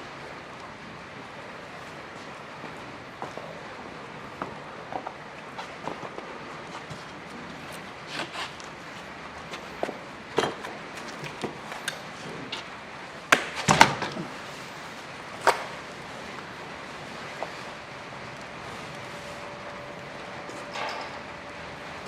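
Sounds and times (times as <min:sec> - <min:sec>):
wood fire hissing: 0:00.1 - 0:20.8.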